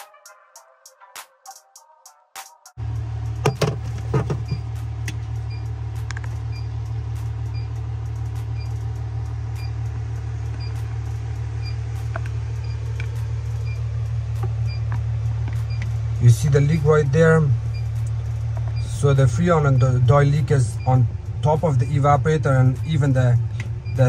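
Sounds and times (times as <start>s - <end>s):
evaporator fan running: 2.8s - 24.0s
refrigerator hum: 2.8s - 24.0s.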